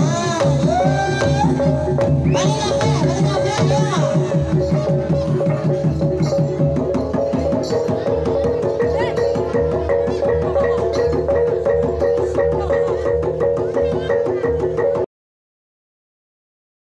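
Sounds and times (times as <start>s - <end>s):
mallet-struck keyed instruments: 0.0s - 15.1s.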